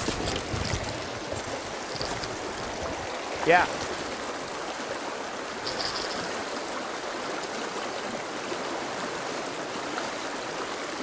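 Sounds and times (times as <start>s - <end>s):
stream flowing over gravel: 0.0s - 11.0s.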